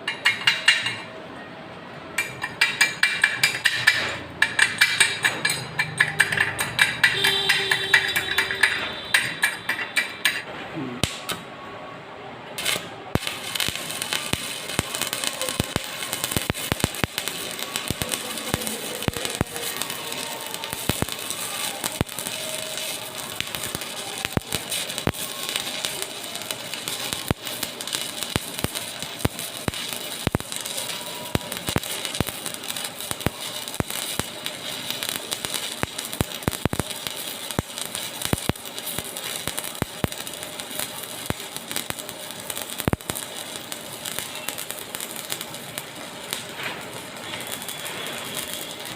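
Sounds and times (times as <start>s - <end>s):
welding arc crackling: 2.2s - 11.5s, 12.6s - 48.9s.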